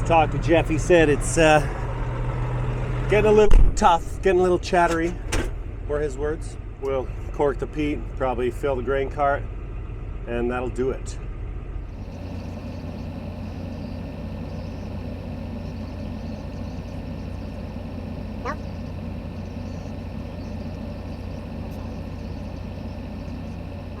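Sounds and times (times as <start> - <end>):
farm machine engine drone: 0.0 - 24.0.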